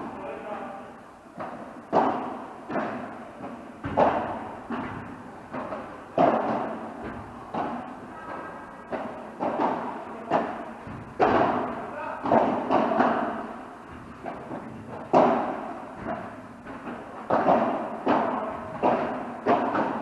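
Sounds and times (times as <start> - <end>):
ball hitting rackets and walls: 1.3 - 20.0.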